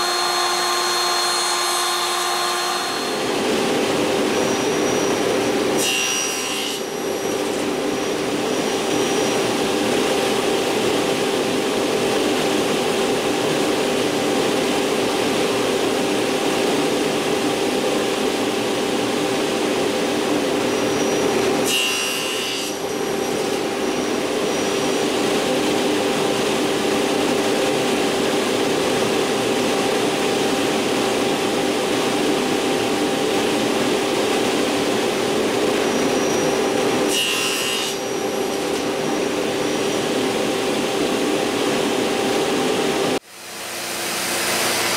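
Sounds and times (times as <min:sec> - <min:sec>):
table saw blade hum: 0:00.0 - 0:44.9.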